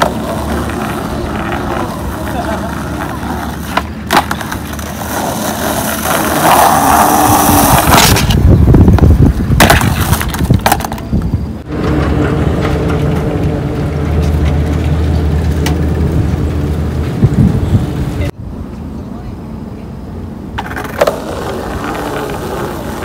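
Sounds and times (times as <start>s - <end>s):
skateboard clack: 0.0s - 16.0s, 20.6s - 23.0s
skateboard wheels rolling on concrete: 0.0s - 23.0s
steady low rumble: 0.0s - 23.0s.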